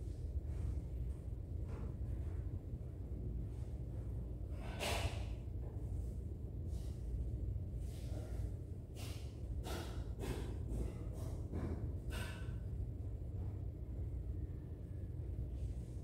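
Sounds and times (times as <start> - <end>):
noisy breaths close to microphone: 0.0 - 16.0.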